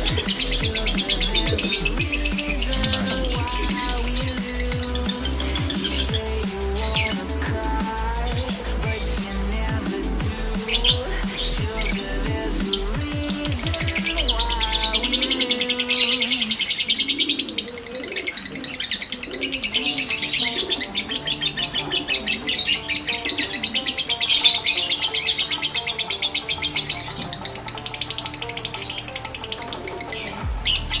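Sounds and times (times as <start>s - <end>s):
faint music: 0.0s - 31.0s.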